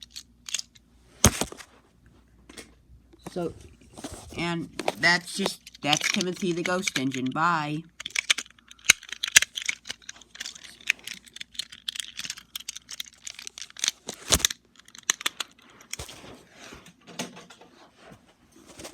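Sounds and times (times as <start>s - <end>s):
handling clicks and rustling: 0.0s - 1.7s, 2.5s - 17.7s.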